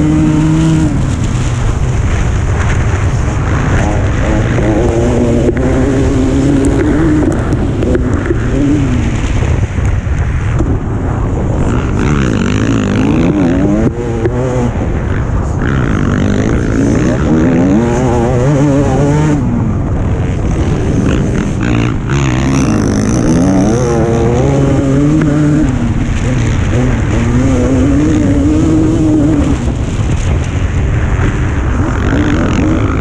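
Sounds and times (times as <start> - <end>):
motocross bike engine: 0.0 - 33.0
wind on microphone: 0.0 - 33.0.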